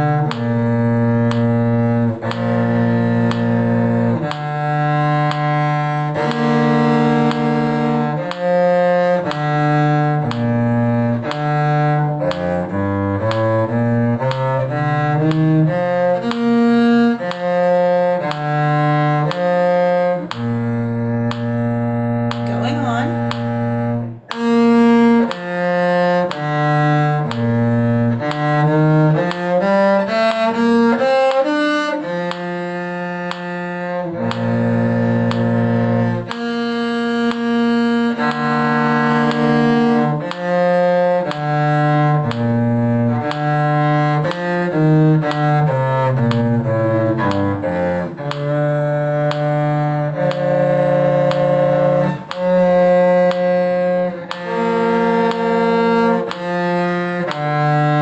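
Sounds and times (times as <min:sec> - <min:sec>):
cello duet: 0:00.0 - 0:58.0.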